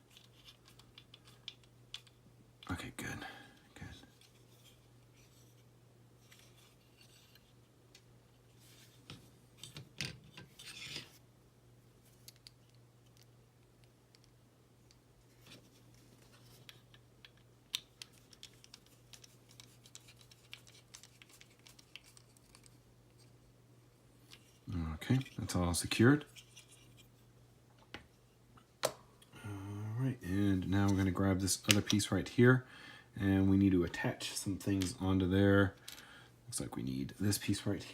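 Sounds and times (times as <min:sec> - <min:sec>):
low steady hum: 0:00.0 - 0:37.9.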